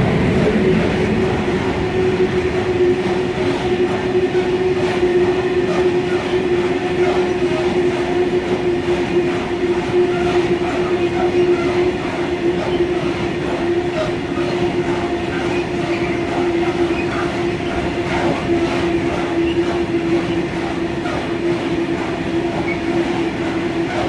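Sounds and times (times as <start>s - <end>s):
steady hum: 0.0s - 23.8s
steady droning tone: 0.0s - 24.0s
train wheels rumbling on rail: 0.0s - 24.0s
faint clacks over rail joints: 2.4s - 24.0s.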